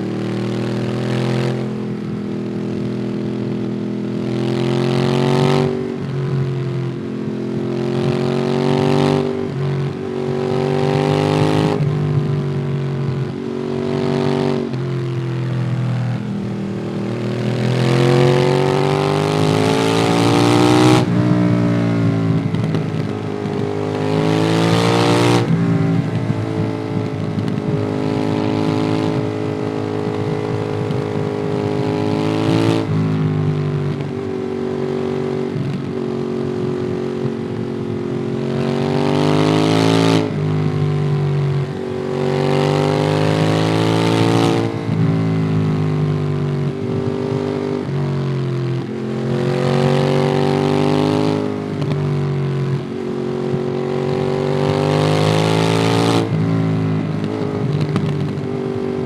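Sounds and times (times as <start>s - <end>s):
motorcycle engine accelerating: 0.0s - 59.0s
wind noise: 0.5s - 59.0s.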